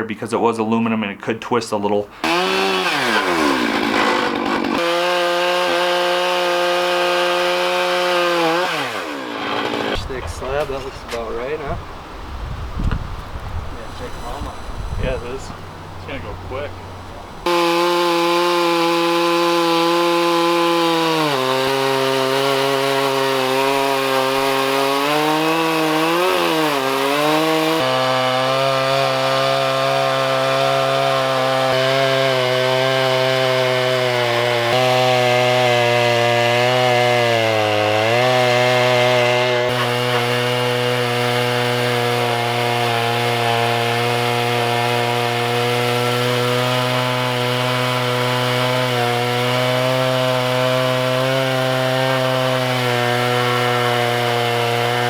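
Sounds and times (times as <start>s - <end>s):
chainsaw ripping through log: 2.2s - 11.6s, 17.4s - 55.0s.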